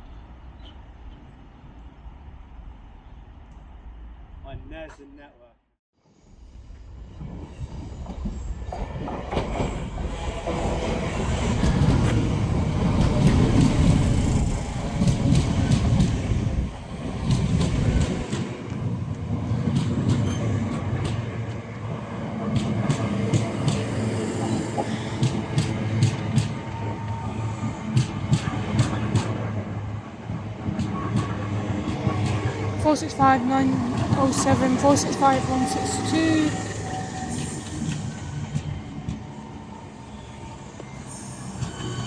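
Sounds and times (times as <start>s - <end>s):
train rumbling past: 6.0s - 42.0s.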